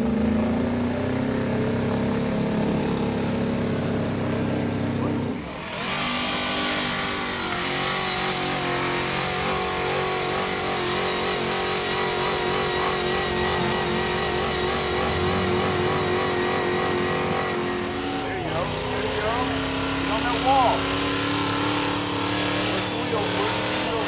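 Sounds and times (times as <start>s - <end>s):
truck engine revving high: 0.0s - 24.0s.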